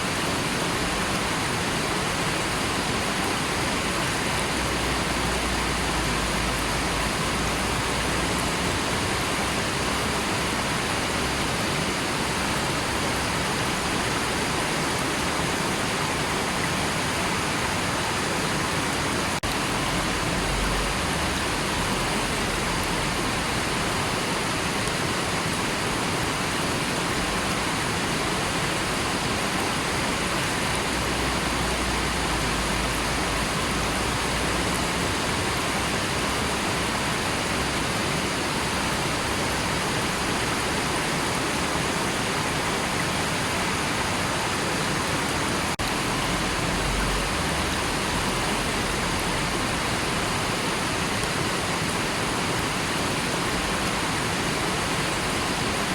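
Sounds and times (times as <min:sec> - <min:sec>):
river water flowing: 0:00.0 - 0:55.9.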